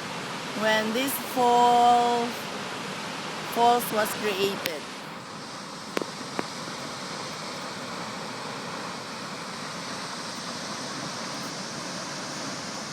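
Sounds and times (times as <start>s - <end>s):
waterfall roaring: 0.0s - 12.9s.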